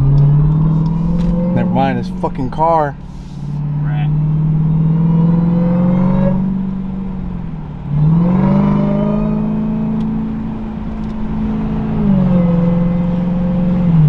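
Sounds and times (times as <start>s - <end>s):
engine accelerating hard: 0.0s - 14.0s
supercharger whine: 0.0s - 14.0s.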